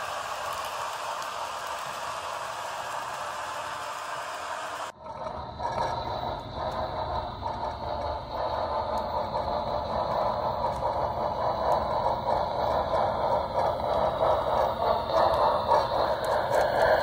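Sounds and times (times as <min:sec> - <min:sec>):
model train wheels clattering on rails: 0:00.0 - 0:17.0.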